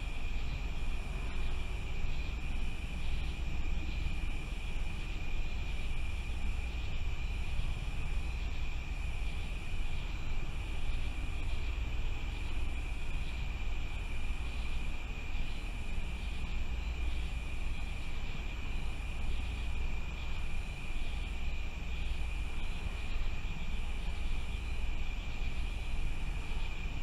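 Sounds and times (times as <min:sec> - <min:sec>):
high insect trill: 0:00.0 - 0:27.0
pulsing insect call: 0:00.0 - 0:27.0.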